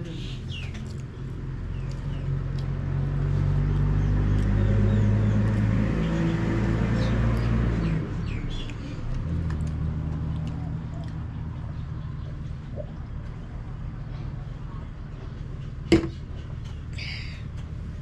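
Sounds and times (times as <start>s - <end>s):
birds chirping: 0.0s - 2.6s, 3.3s - 9.1s, 10.2s - 17.4s
vehicle engine running: 0.0s - 18.0s.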